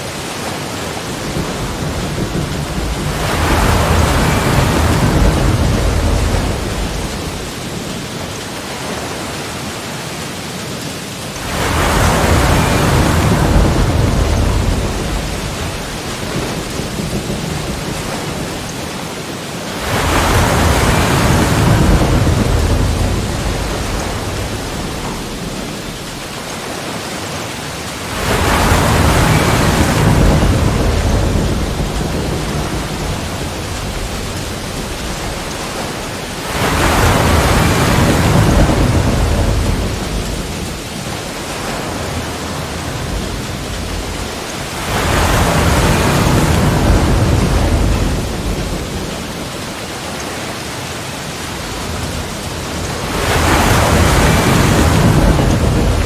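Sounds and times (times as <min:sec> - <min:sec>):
waves crashing against rocks: 0:00.0 - 0:56.0.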